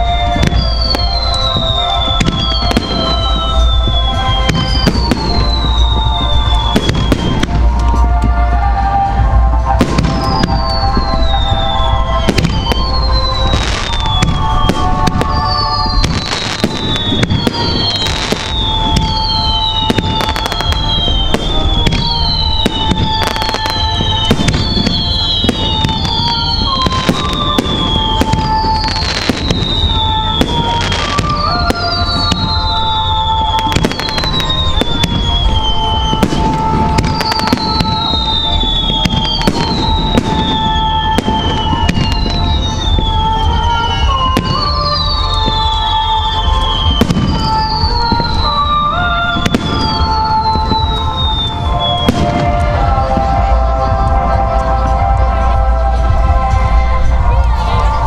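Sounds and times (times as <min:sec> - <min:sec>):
music playing: 0:00.0 - 0:58.0.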